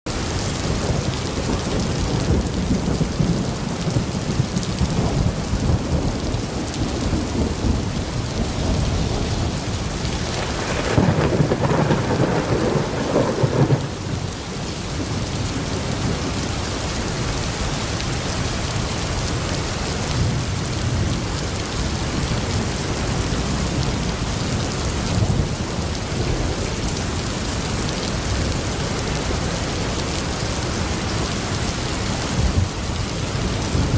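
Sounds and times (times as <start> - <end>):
steady rain falling: 0.1 - 33.9
thunder rumbling: 0.2 - 17.0, 20.1 - 33.9.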